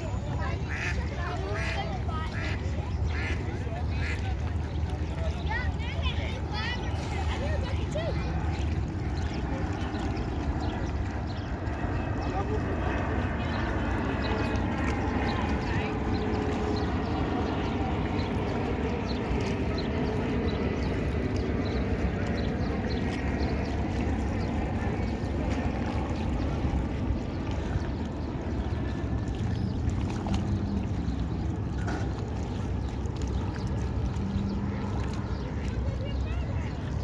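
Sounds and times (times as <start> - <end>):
faint distant voices: 0.0 - 37.0
river water lapping: 0.0 - 37.0.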